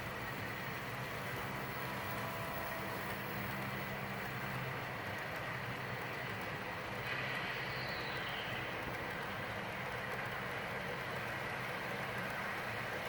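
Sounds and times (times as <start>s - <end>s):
model train humming on track: 0.0s - 13.0s.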